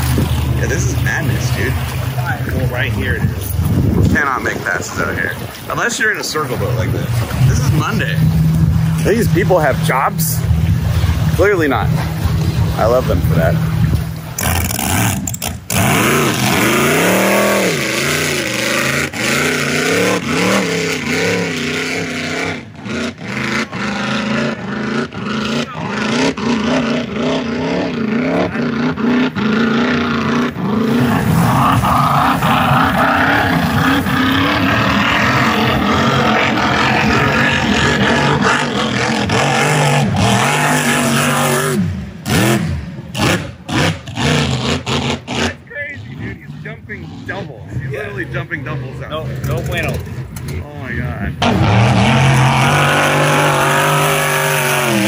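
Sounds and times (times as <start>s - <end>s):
race boat engine running hard: 0.0s - 55.0s.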